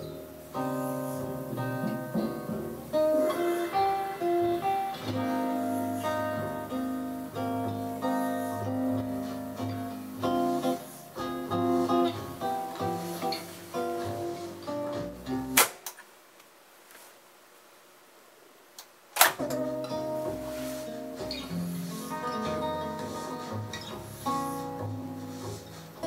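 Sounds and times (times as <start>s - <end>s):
acoustic guitar music: 0.0s - 15.8s, 19.4s - 26.0s.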